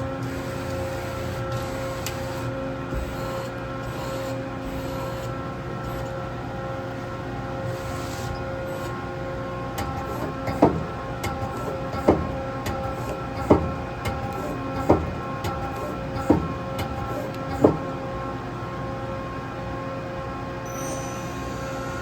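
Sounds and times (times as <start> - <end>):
lathe mechanical hum: 0.0 - 20.6
machine whining tones: 0.0 - 22.0.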